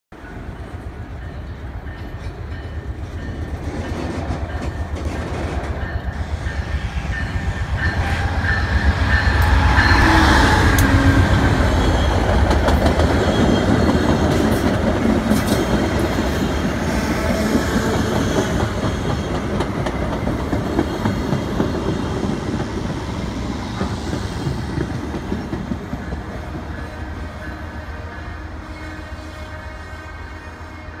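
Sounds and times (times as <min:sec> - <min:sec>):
train wheels clickety-clack: 0:01.8 - 0:26.9.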